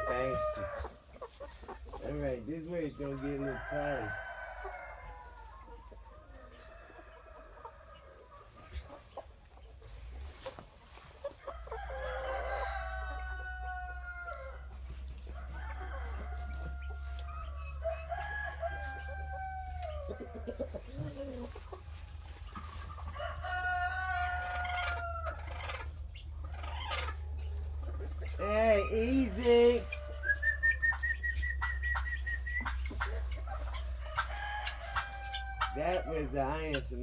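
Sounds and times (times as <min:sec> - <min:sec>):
roosters crowing: 0:00.0 - 0:09.2, 0:09.8 - 0:37.0
hens clucking: 0:00.0 - 0:37.0.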